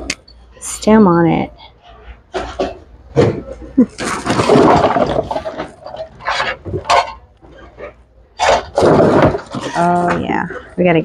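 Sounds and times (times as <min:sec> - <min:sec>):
objects rustling and clattering: 0:01.7 - 0:11.0.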